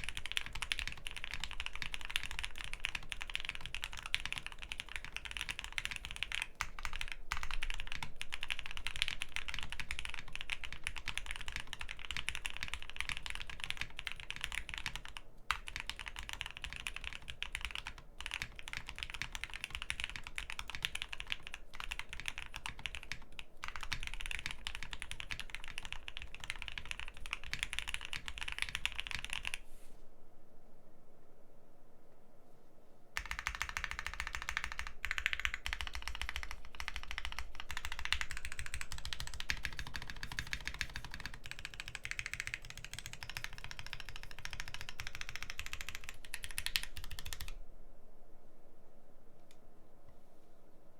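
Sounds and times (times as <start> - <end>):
fast mechanical keyboard typing: 0.0 - 29.6, 33.2 - 47.6.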